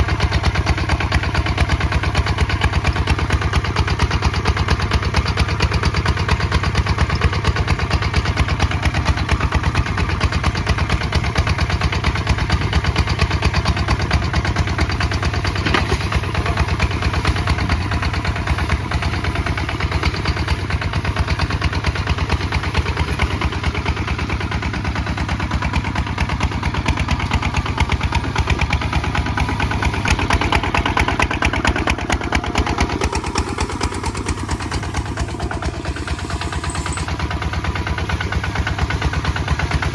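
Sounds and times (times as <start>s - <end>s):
single-cylinder diesel engine running: 0.0s - 39.9s.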